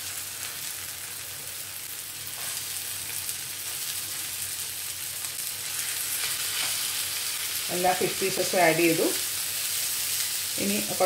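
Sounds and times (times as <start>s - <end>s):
sauce sizzling in frying pan: 0.0s - 11.0s.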